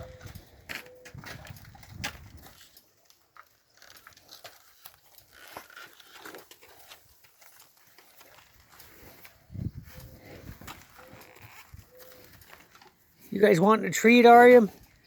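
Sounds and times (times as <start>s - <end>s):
cows tearing and chewing grass: 0.0s - 15.0s.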